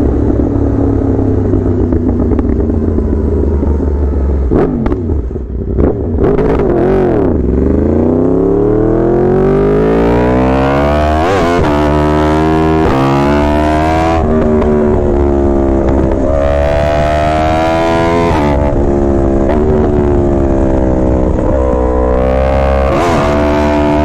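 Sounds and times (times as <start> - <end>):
motorcycle engine revving and accelerating: 0.0 - 24.0.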